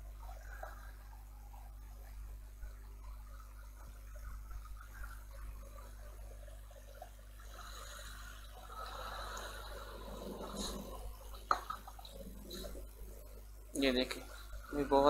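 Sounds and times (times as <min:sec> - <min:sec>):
faint noise: 0:00.0 - 0:15.0
low steady hum: 0:00.0 - 0:15.0.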